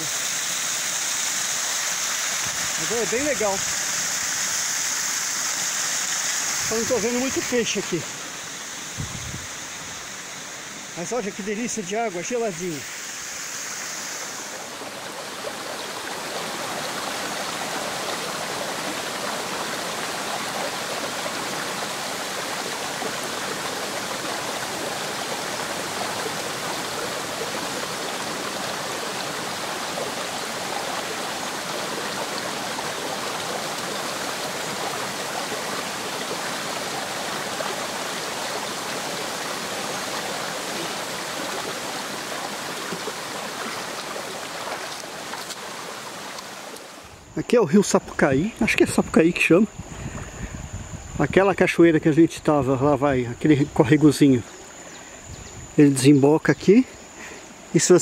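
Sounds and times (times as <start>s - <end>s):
waterfall rushing into stream: 0.0s - 51.0s, 52.7s - 58.0s.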